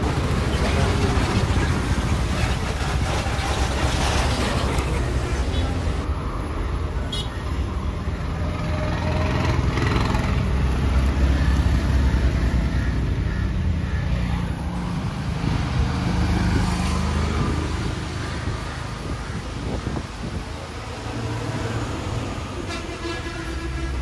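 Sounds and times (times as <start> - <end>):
motor vehicle rumble: 0.0 - 22.9.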